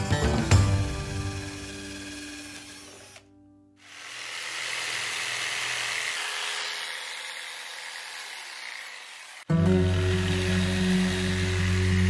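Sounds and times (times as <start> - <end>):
power drill boring into wood: 1.0 - 12.0.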